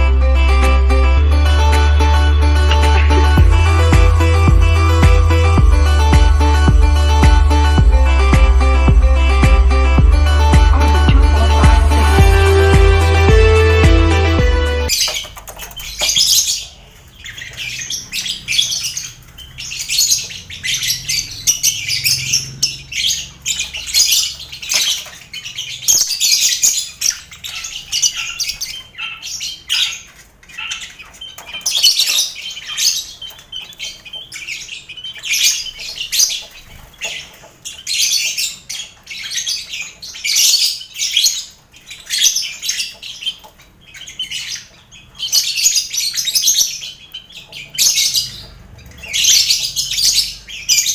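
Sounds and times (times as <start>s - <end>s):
lovebirds chattering and squawking: 1.6s - 50.9s
finches chirping: 2.0s - 50.9s.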